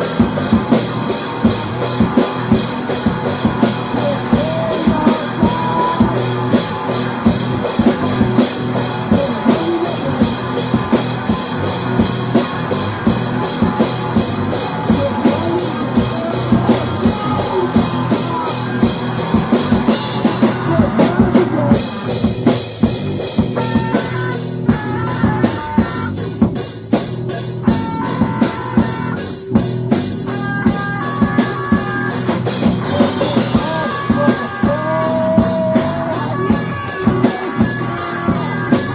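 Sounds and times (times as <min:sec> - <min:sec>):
drum kit: 0:00.0 - 0:38.9
high stepped melody line: 0:00.0 - 0:38.9
instrumental rock music: 0:00.0 - 0:38.9.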